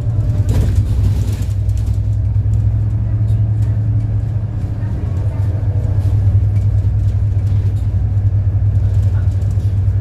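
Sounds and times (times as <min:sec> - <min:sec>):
bus engine running: 0:00.0 - 0:10.0
road noise: 0:00.0 - 0:10.0.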